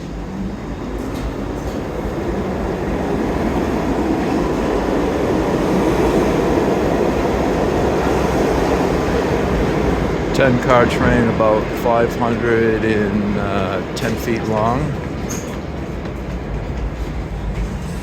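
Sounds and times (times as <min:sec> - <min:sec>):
subway train roaring: 0:00.0 - 0:18.0.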